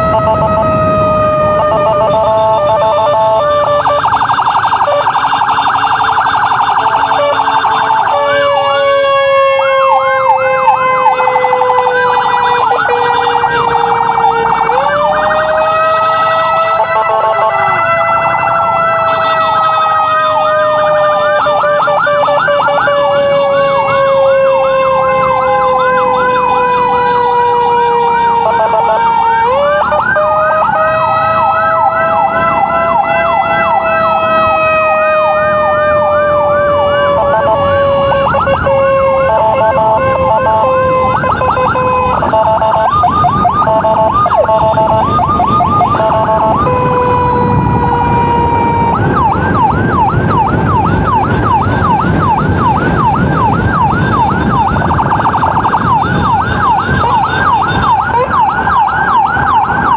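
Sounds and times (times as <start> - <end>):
electronic emergency sirens: 0.0 - 59.9
traffic noise: 0.0 - 59.9.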